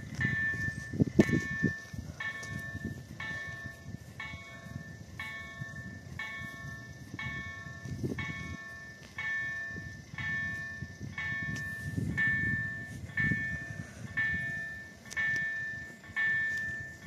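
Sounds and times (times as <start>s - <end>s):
level-crossing warning bell: 0.0s - 17.0s
low rumbling noise: 0.0s - 17.0s.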